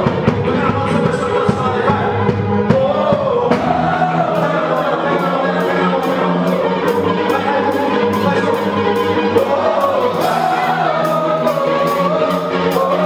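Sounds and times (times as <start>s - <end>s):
voices singing over a band: 0.0s - 13.0s.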